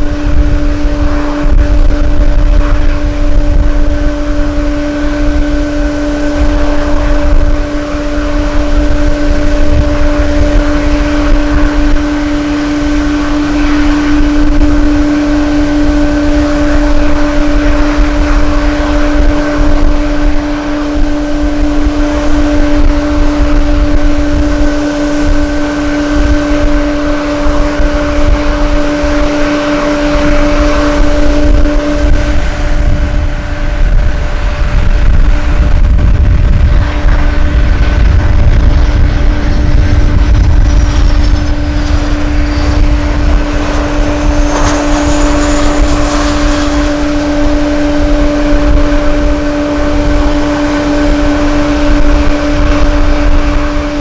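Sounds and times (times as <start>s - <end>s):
jet engine hum: 0.0s - 54.0s
wind buffeting microphone: 0.0s - 54.0s.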